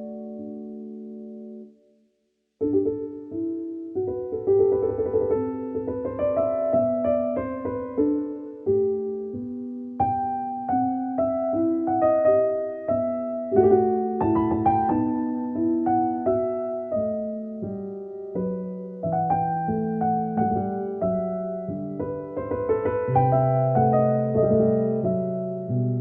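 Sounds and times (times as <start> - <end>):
gentle piano music: 0.0 - 26.0.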